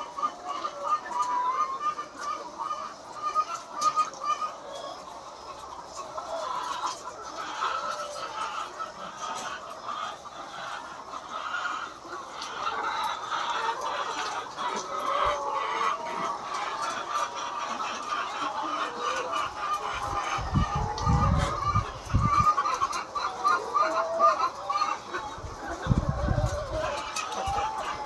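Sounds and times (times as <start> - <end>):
hens clucking: 0.0 - 28.0.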